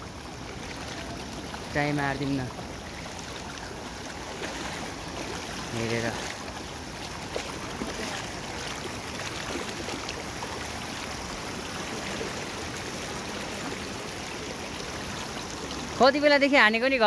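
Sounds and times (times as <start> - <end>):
river flowing over stones: 0.0 - 17.0.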